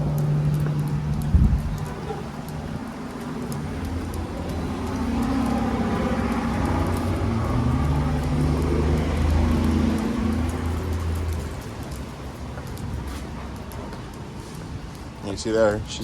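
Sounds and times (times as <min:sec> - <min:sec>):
vehicle engine running: 0:00.0 - 0:13.7.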